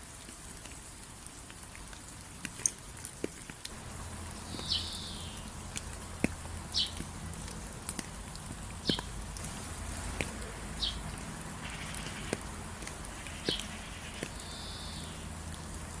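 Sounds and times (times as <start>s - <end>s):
rain falling: 0.0s - 16.0s
raindrops ticking close by: 0.0s - 16.0s.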